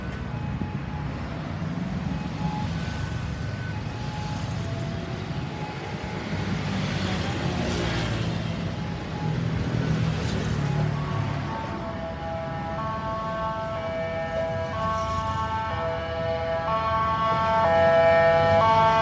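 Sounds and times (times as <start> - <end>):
passing traffic: 0.0 - 19.0.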